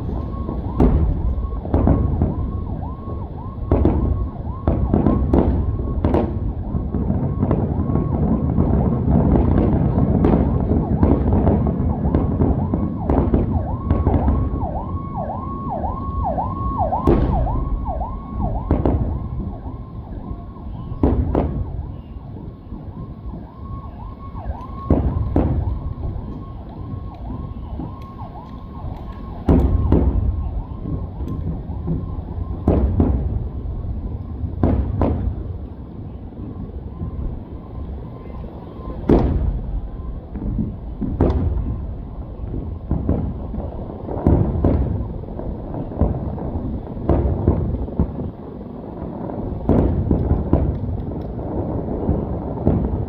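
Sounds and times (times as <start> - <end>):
siren yelping: 0.0 - 48.3
fireworks bangs: 0.0 - 53.0.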